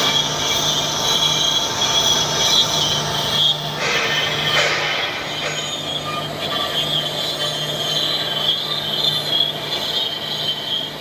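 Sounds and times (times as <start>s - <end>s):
router spindle squealing whine: 0.0s - 11.0s.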